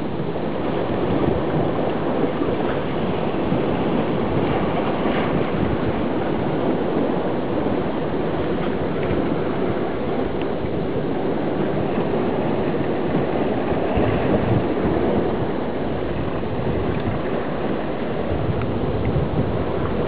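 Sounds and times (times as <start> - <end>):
ocean surf breaking on rocks: 0.0 - 20.0
wind rumbling on microphone: 0.0 - 20.0.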